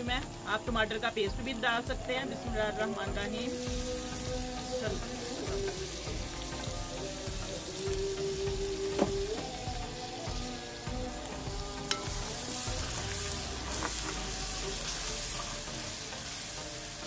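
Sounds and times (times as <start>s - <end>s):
soft background music: 0.0s - 17.0s
tomatoes sizzling in a pot: 0.0s - 17.0s.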